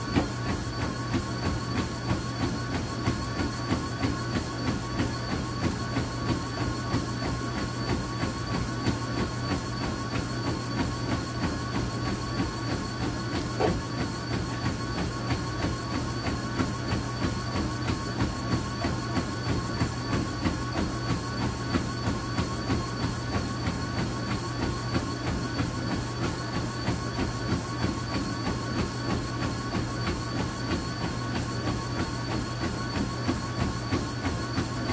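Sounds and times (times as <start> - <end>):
footfalls striking treadmill belt: 0.0 - 34.9
treadmill motor hum and whine: 0.0 - 34.9.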